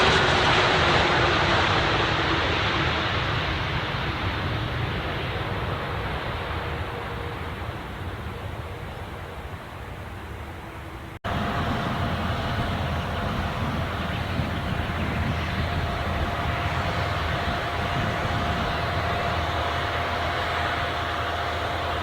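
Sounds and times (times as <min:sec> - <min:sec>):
airliner landing rumble: 0:00.0 - 0:22.0
jet engine whine: 0:00.0 - 0:22.0.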